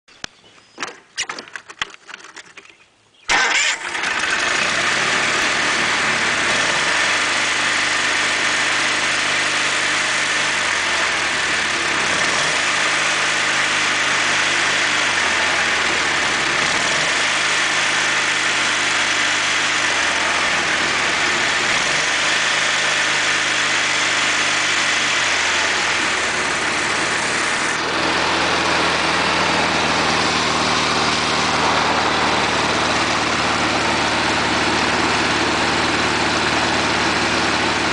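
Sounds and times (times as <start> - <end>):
lawn tractor engine running: 0.8 - 37.9.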